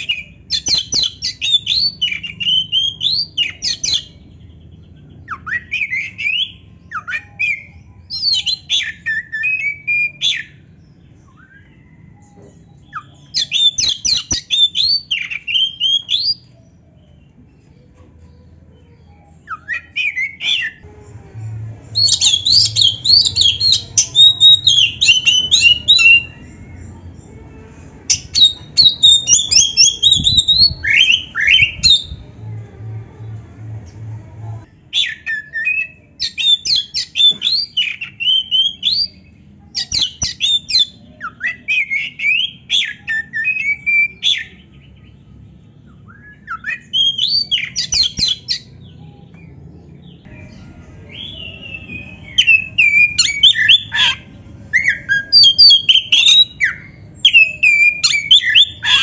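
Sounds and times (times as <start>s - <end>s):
magpie-robin singing: 0.0s - 20.9s, 21.9s - 32.3s, 34.7s - 59.0s.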